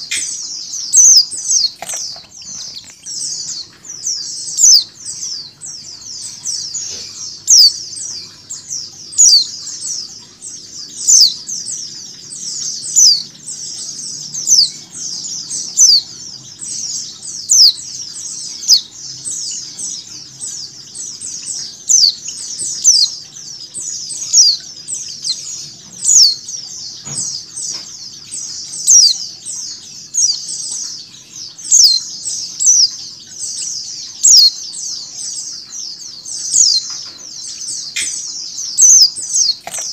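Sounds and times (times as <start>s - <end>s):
flock of birds twittering: 0.0s - 39.9s.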